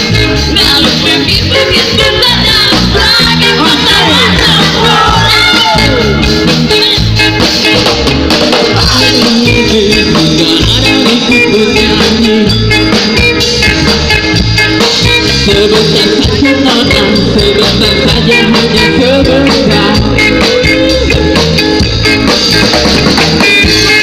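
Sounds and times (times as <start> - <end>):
band playing music: 0.0 - 24.0.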